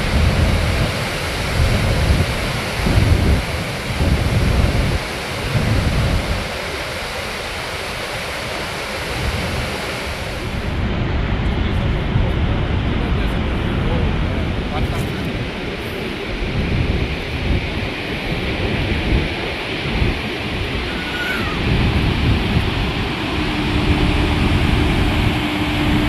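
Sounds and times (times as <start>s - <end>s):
rush of falling water: 0.0s - 26.0s
wind buffeting microphone: 0.0s - 26.0s.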